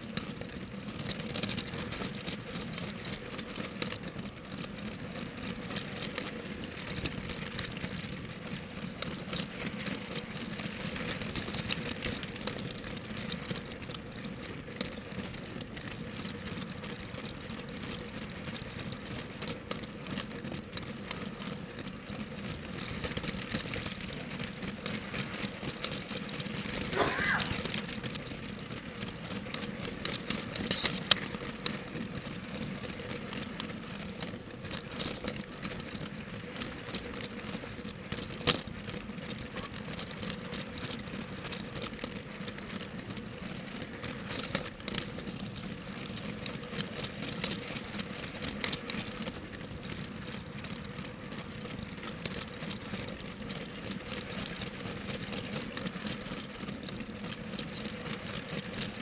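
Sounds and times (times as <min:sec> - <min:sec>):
toy train wheels rattling on track: 0:00.0 - 0:59.0.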